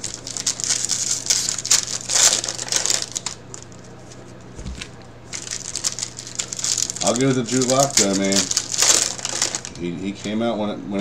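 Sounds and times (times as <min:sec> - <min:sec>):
foil wrapper crinkling: 0:00.0 - 0:10.4.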